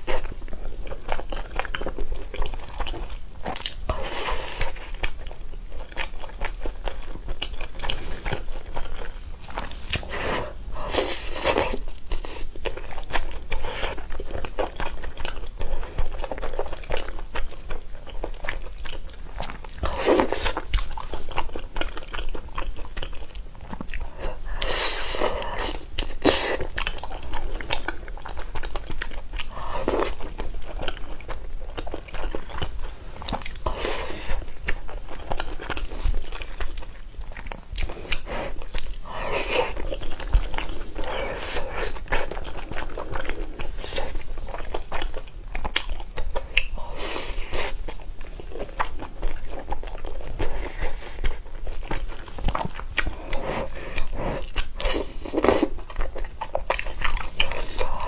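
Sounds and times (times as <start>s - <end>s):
person chewing jelly-like food: 0.0s - 58.0s.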